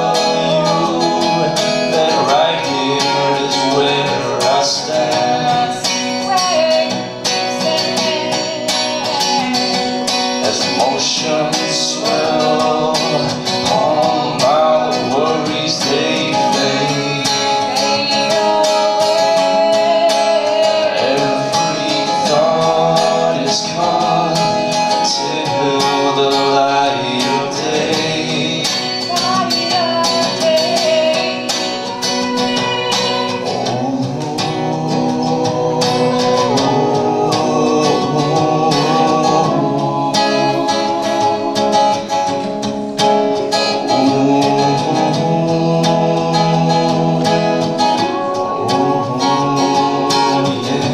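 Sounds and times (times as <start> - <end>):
person singing: 0.0 - 50.9
strummed acoustic guitar: 0.0 - 50.9.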